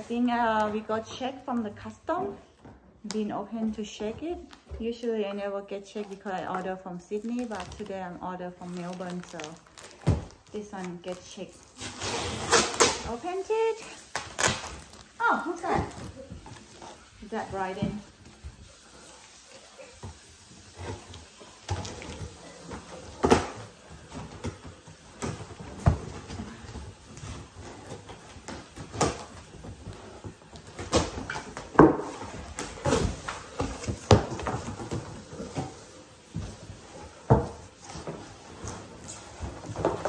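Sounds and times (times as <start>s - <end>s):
cardboard rustling: 3.5s - 40.0s.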